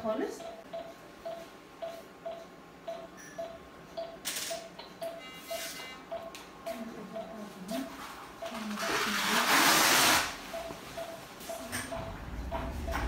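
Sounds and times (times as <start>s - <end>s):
medical equipment beeping: 0.0s - 13.0s.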